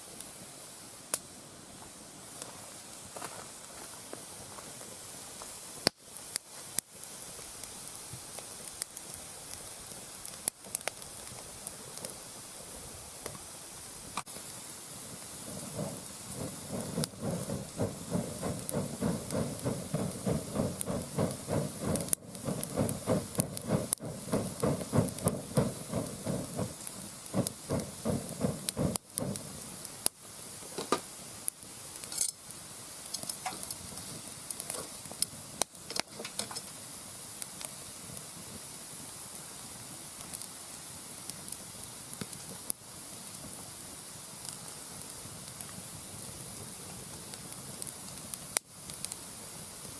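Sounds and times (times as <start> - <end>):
fire hissing and sputtering: 0.0 - 49.9
wood fire crackling and popping: 0.1 - 49.9.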